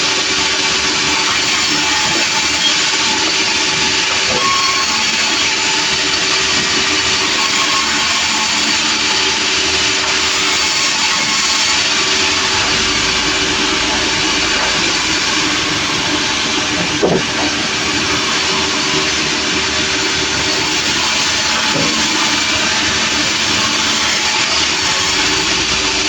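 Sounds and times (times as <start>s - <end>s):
sawmill engine hum: 0.0s - 26.0s.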